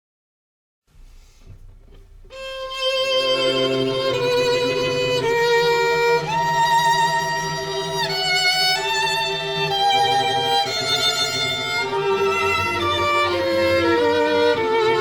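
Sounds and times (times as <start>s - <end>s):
low sustained strings: 1.6s - 15.0s
violin slow melody: 1.8s - 15.0s.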